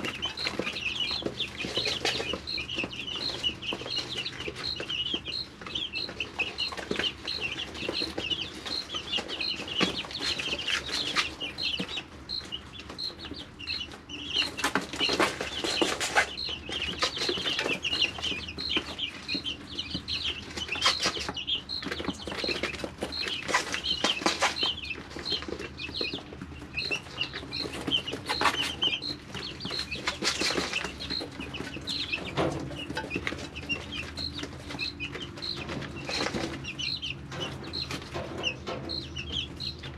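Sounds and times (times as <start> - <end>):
chicks peeping: 0.0 - 39.9
chicks scuffling and wing-flapping: 0.0 - 39.9.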